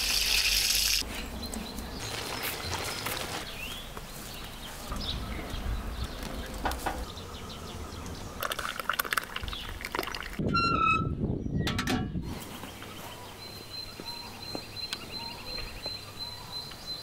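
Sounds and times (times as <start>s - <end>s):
birds chirping: 1.0s - 10.0s, 12.2s - 17.0s.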